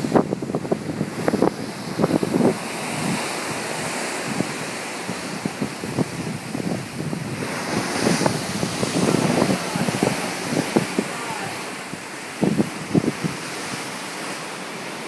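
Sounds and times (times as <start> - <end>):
waves rushing on open sea: 0.0 - 15.0
wind buffeting microphone: 0.0 - 15.0.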